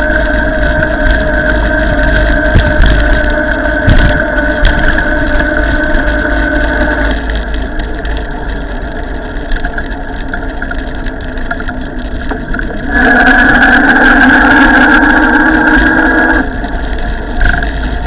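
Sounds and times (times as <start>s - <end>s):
electric bike motor whining: 0.0s - 9.9s, 12.8s - 18.0s
wind rumble on microphone: 0.0s - 18.0s.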